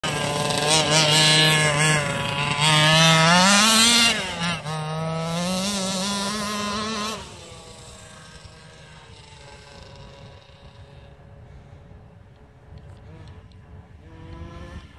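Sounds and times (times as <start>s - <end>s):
small two-stroke engine revving: 0.0s - 14.9s.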